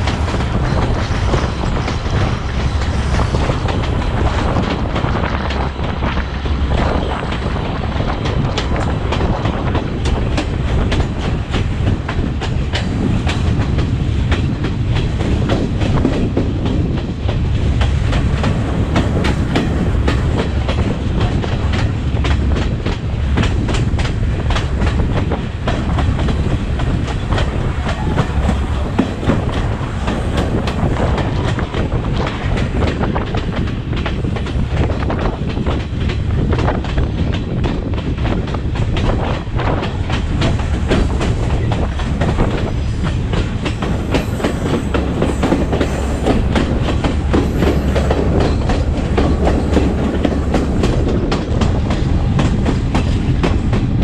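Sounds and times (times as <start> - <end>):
low train rumble: 0.0 - 54.0
train wheels clicking over rail joints: 0.0 - 54.0.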